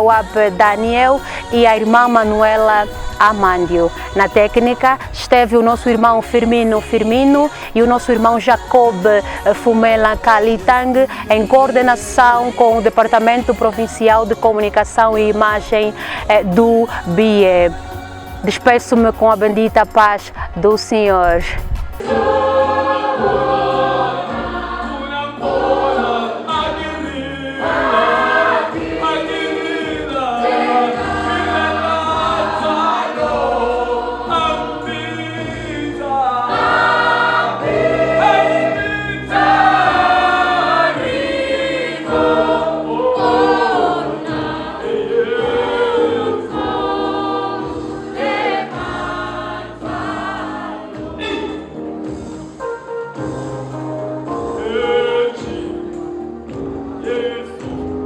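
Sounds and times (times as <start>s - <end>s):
choir singing gospel: 0.0s - 58.0s
instrumental accompaniment: 0.0s - 58.0s.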